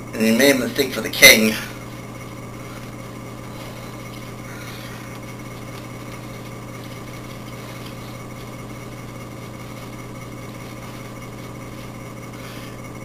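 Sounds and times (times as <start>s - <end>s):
constant hiss: 0.0s - 13.0s
low hum: 1.6s - 13.0s.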